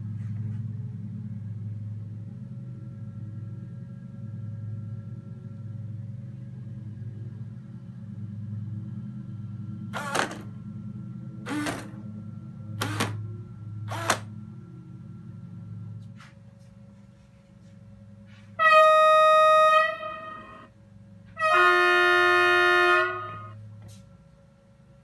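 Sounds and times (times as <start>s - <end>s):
model locomotive electric hum: 0.0s - 25.0s.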